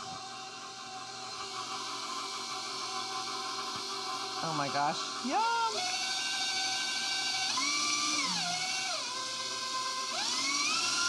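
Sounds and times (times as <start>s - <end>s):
stand mixer motor whine: 0.0s - 11.0s.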